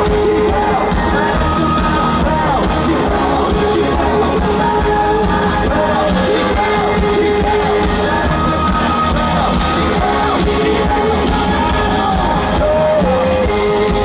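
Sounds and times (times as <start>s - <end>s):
crowd yelling along: 0.0s - 14.0s
live pop-rock music with singer: 0.0s - 14.0s.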